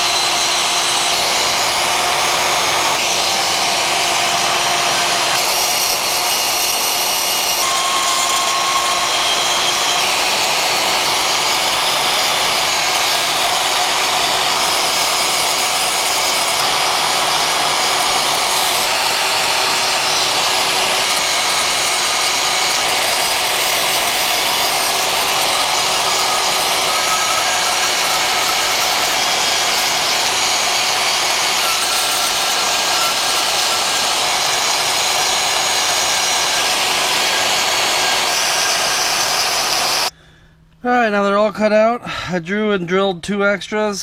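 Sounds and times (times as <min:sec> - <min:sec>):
power tool running: 0:00.0 - 0:40.2.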